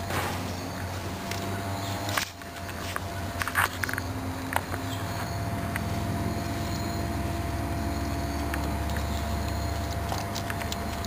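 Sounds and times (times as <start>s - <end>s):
low motor-like rumble: 0.0s - 11.0s
raccoon chewing acorns: 0.7s - 6.1s, 6.7s - 11.0s.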